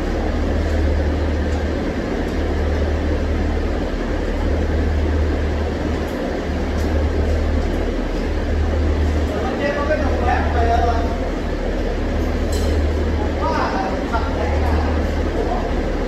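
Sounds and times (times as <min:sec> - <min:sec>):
rotary engine idling: 0:00.0 - 0:16.0.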